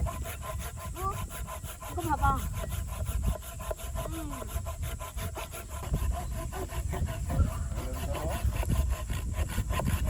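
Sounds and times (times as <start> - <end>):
hand saw cutting wood: 0.0 - 10.0.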